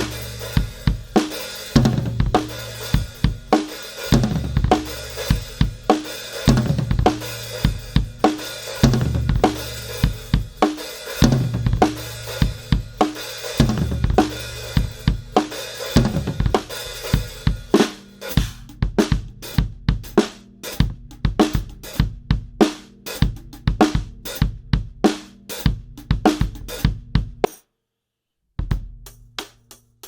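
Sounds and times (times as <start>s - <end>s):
drum kit playing a groove: 0.0s - 27.6s, 28.6s - 30.0s.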